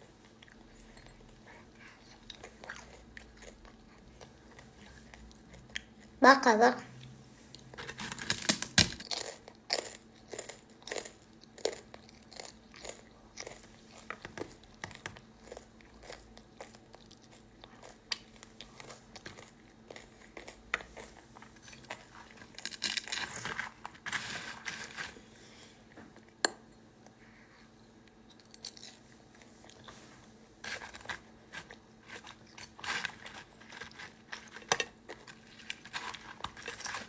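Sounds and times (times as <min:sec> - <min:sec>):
person chewing food: 0:00.0 - 0:06.2, 0:07.0 - 0:37.0.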